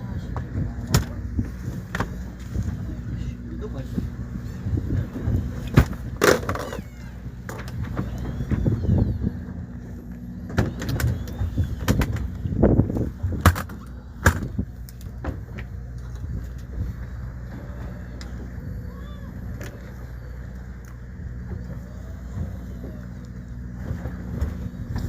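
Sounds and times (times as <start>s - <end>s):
low hum of boat machinery: 0.0s - 25.0s.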